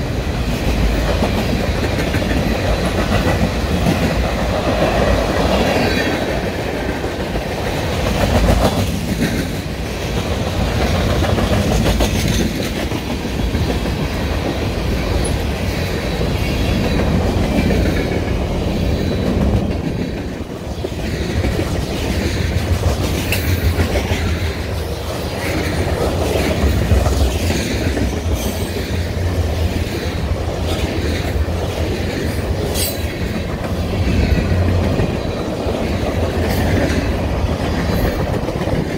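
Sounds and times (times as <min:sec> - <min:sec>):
freight train rumbling past: 0:00.0 - 0:38.9
wheels clacking over rail joints: 0:00.0 - 0:38.9.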